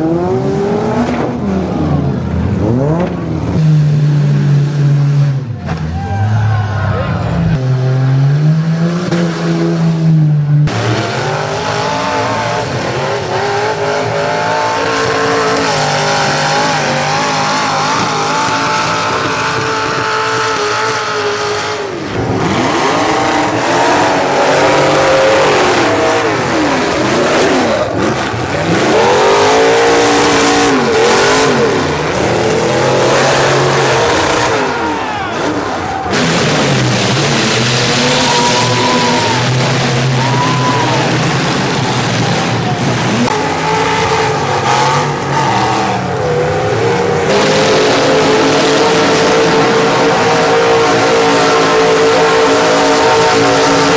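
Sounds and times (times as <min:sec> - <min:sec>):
car engines revving: 0:00.0 - 0:53.9.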